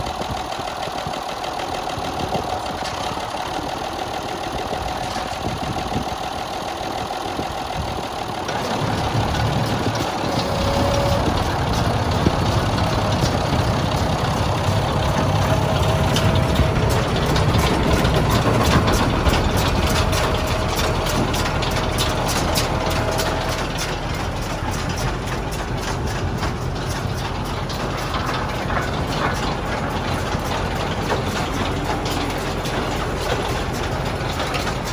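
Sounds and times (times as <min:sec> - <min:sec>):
baler and tractor engine running: 0:00.0 - 0:34.9
fast rattling tick: 0:00.0 - 0:34.9.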